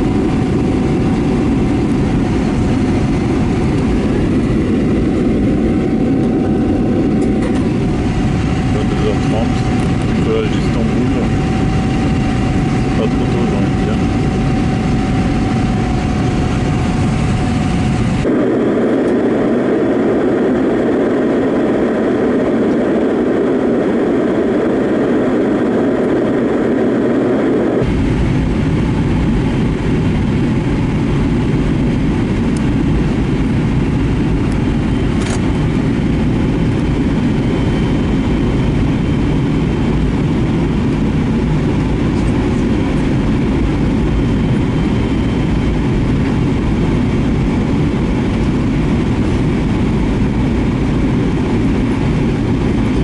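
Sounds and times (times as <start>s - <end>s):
jet airliner cabin noise: 0.0s - 53.0s.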